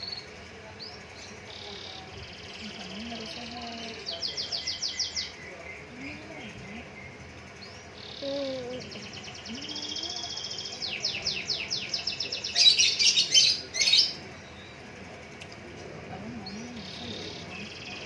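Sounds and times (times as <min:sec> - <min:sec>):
songbirds chirping and trilling: 0:00.0 - 0:18.0.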